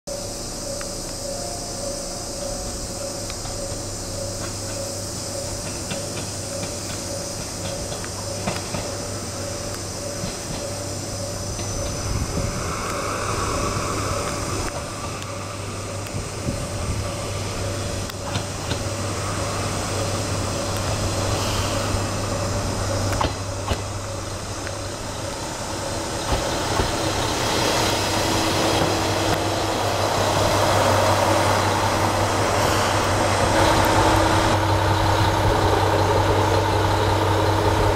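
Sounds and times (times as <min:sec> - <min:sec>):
diesel railcar engine: 0:00.1 - 0:37.9
train wheels on rails: 0:00.1 - 0:37.9.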